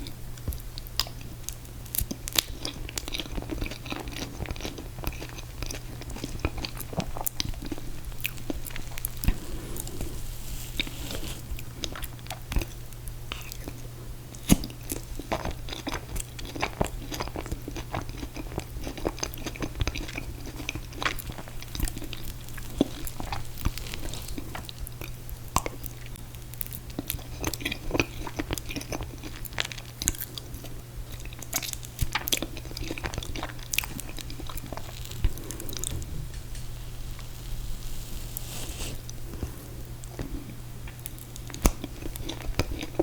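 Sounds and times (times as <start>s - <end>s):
chewing ice cream cake: 0.0s - 37.3s, 38.3s - 43.0s
low steady hum: 0.0s - 43.0s.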